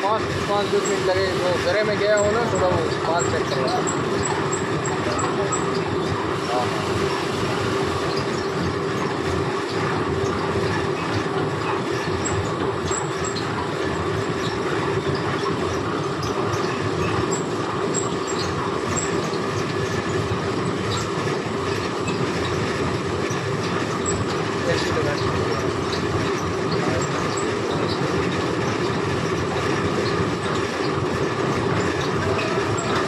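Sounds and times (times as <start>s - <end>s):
machine hum: 0.0s - 33.0s
mechanical rattle of rollers: 0.0s - 33.0s.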